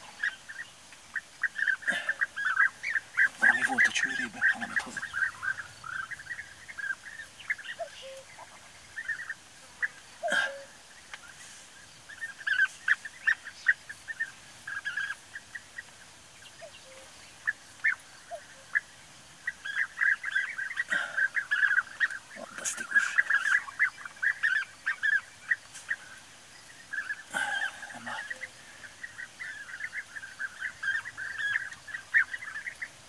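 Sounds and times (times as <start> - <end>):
birds rolling calls: 0.0 - 33.0.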